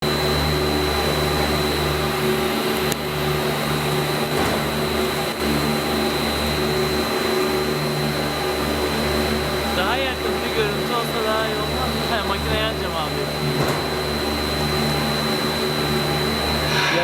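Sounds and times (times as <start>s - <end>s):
electric motors humming and whining: 0.0s - 17.0s.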